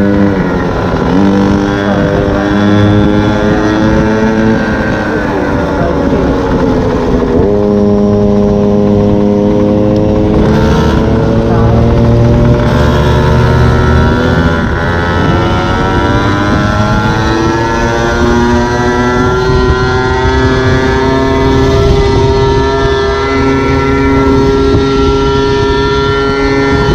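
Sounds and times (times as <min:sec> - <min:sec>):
two-stroke scooter engine buzzing: 0:00.0 - 0:26.9
wind and road rumble: 0:00.0 - 0:26.9.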